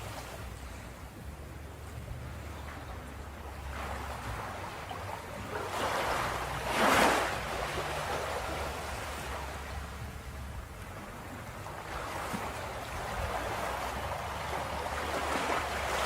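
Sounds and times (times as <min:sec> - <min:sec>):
steady low rumble: 0:00.0 - 0:16.0
waves breaking on a beach: 0:00.0 - 0:16.0.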